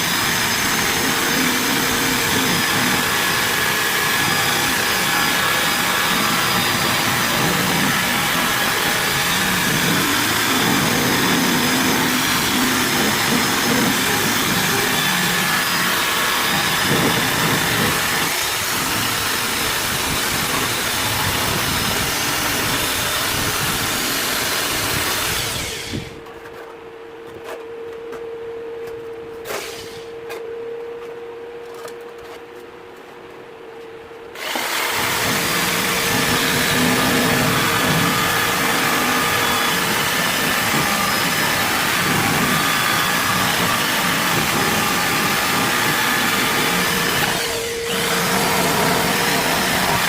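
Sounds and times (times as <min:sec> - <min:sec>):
electric power tool running: 0:00.0 - 0:26.2, 0:34.4 - 0:50.0.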